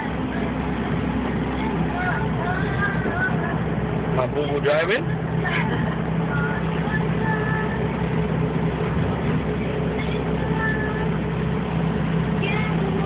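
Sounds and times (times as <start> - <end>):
road noise: 0.0 - 13.0
van engine running: 0.0 - 13.0.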